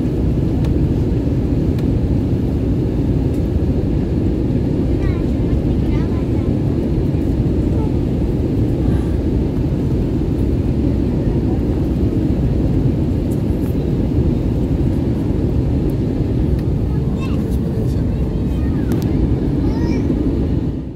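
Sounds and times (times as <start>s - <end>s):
jet engine rumble in cabin: 0.0s - 20.9s.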